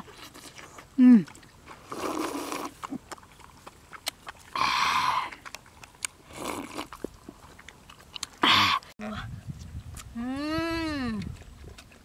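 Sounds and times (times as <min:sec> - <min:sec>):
person chewing with lip smacks: 0:00.0 - 0:08.9, 0:09.6 - 0:10.2, 0:11.0 - 0:12.0.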